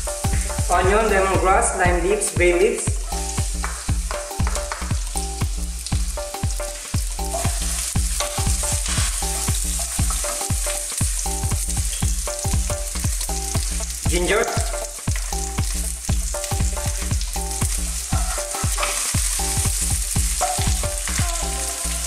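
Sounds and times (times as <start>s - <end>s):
background music with steady beat: 0.0s - 22.0s
vegetables sizzling in hot oil: 0.0s - 22.0s.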